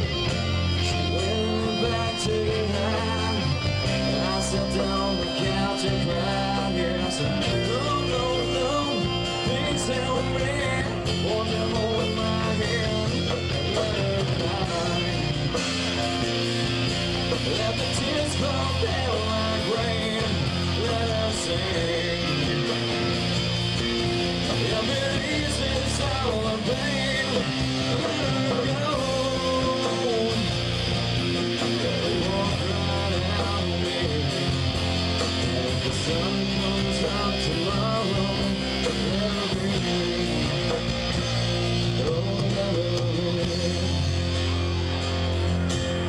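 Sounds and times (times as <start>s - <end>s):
melodic guitar line: 0.0s - 46.0s
rock band playing: 0.0s - 46.0s.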